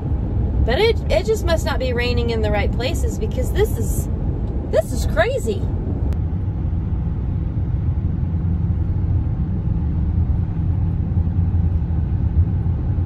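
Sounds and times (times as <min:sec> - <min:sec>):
vehicle cabin road rumble: 0:00.0 - 0:13.0.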